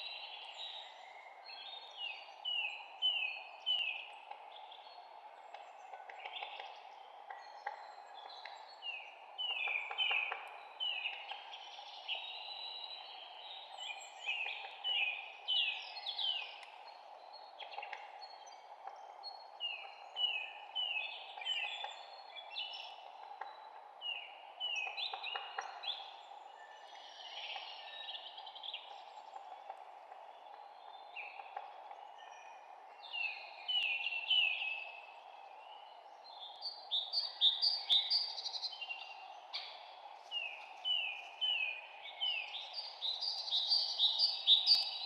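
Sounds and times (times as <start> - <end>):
songbirds chirping: 0.0 - 45.0
steady background hiss: 0.0 - 45.0.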